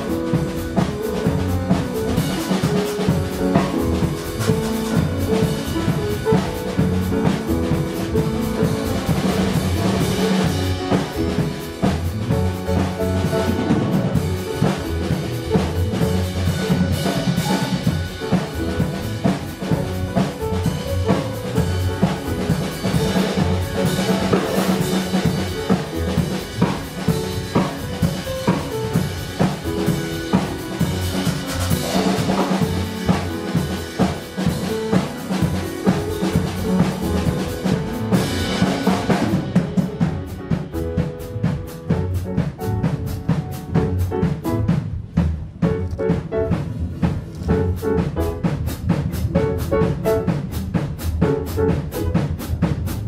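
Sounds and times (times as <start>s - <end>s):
band music: 0.0s - 53.0s
drum kit beat: 0.0s - 53.0s.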